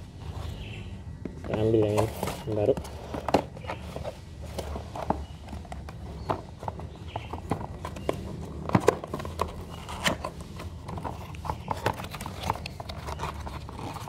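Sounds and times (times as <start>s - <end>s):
steady low hum: 0.0s - 14.0s
hard plastic parts knocking: 1.2s - 13.8s.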